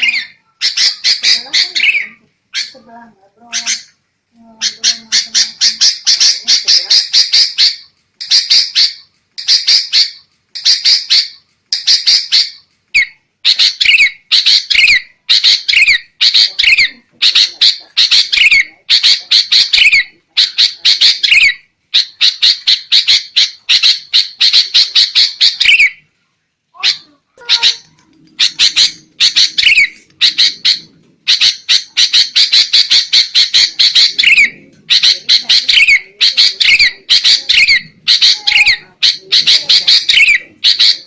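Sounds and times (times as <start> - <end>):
bird chattering calls: 0.0 - 4.0, 4.6 - 26.0, 26.8 - 41.0.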